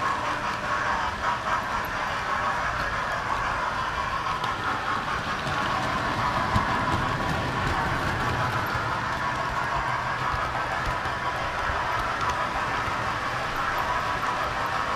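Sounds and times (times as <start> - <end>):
faint clicks from rails: 0.0 - 14.9
model train wheels and motor whirring: 0.0 - 14.9.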